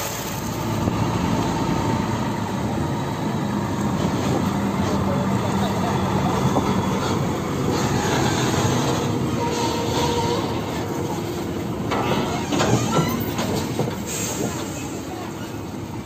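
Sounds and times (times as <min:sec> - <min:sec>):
diesel truck engine: 0:00.0 - 0:16.0
trailer rattling and clattering: 0:00.0 - 0:16.0.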